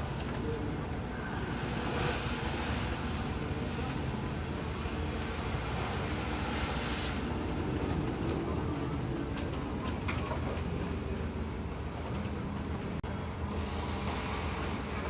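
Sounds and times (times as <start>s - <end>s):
sea water rushing around hull: 0.0s - 15.0s
ship engine rumbling: 0.0s - 15.0s.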